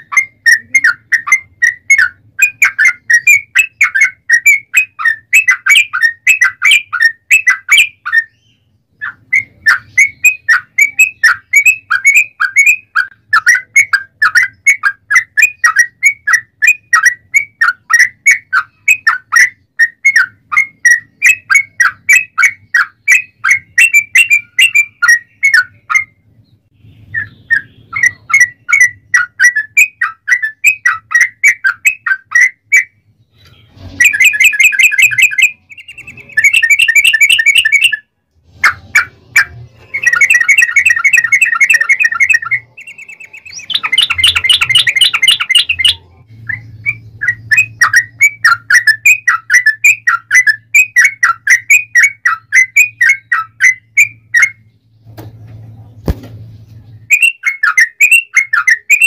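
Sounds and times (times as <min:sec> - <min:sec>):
bulbul singing chattering trills: 0:00.0 - 0:38.0, 0:39.0 - 0:59.0.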